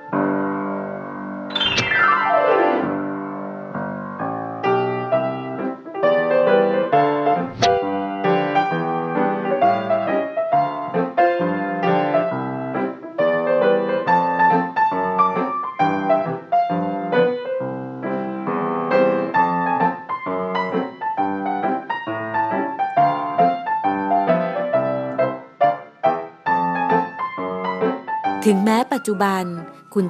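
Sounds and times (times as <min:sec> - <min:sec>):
piano melody over chords: 0:00.0 - 0:30.0.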